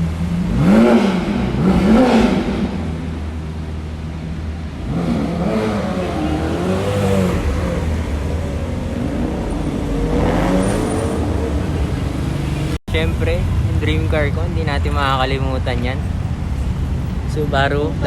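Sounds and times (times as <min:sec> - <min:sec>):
car engine revving: 0:00.0 - 0:17.5
low rumble of running engines: 0:00.0 - 0:18.0.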